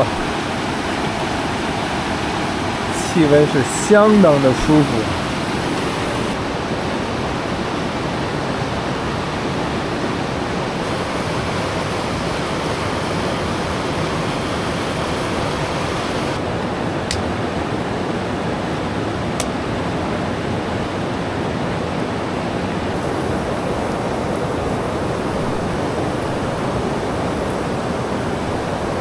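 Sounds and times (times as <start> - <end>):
stream rushing over rapids: 0.0 - 29.0.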